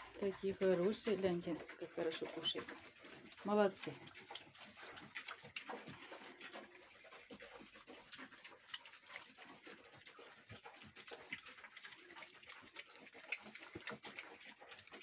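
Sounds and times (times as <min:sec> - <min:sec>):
piglets crunching grass: 0:00.0 - 0:15.0.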